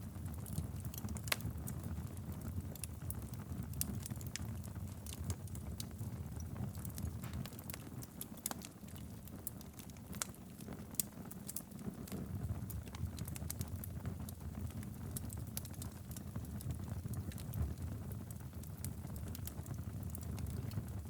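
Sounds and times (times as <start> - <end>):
fire crackles and pops: 0.0 - 21.0
fire flames rumbling: 0.0 - 21.0.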